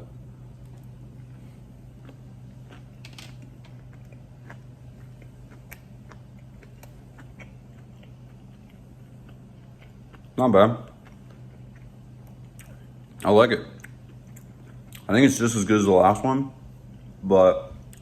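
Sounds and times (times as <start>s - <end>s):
steady low hum: 0.0s - 18.0s
person chewing: 0.6s - 15.1s.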